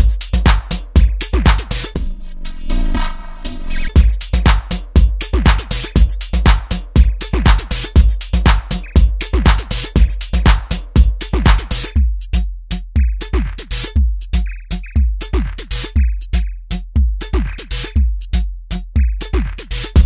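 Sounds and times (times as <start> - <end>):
kick drum: 0.0 - 2.1, 4.0 - 20.0
clicks and hi-hats: 0.0 - 20.0.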